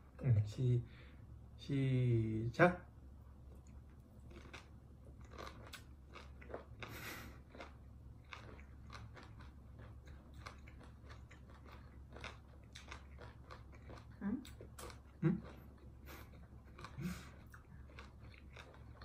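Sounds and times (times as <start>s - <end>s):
chewing with wet mouth clicks: 3.5s - 19.0s.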